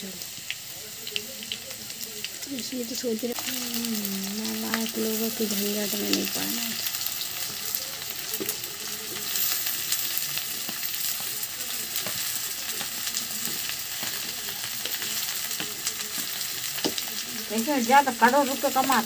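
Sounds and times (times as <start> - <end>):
food sizzling in hot oil: 0.0 - 19.0
oil crackling and popping: 0.0 - 19.0.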